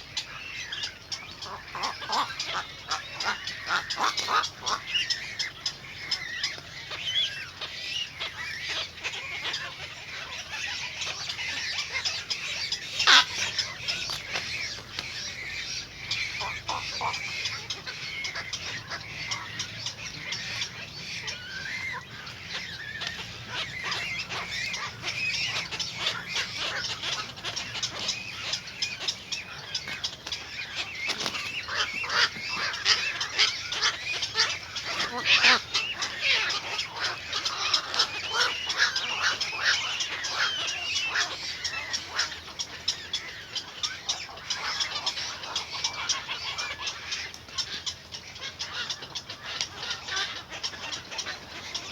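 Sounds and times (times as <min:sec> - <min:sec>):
birds chirping and calling: 0:00.0 - 0:51.9.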